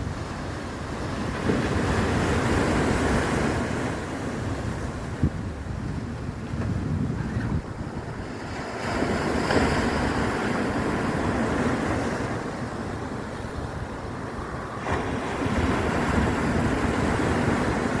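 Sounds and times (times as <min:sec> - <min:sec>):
ocean waves breaking: 0:00.0 - 0:18.0
wind rumbling on microphone: 0:00.0 - 0:18.0.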